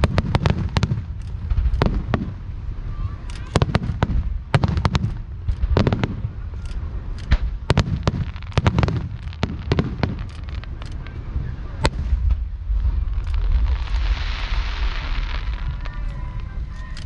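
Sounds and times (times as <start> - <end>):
fireworks bangs: 0.0 - 17.0
low rumbling echo: 0.0 - 17.0.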